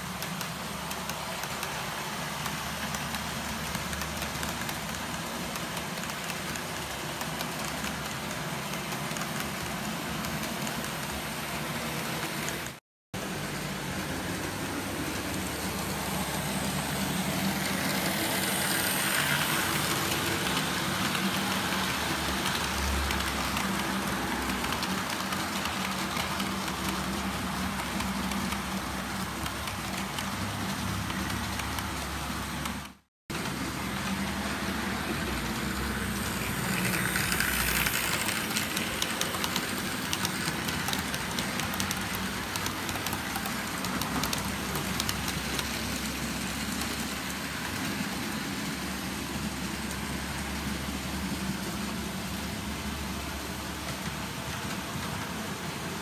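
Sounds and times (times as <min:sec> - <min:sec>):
wheels ticking on rails: 0:00.0 - 0:12.8, 0:13.9 - 0:56.0
model train running: 0:00.0 - 0:56.0.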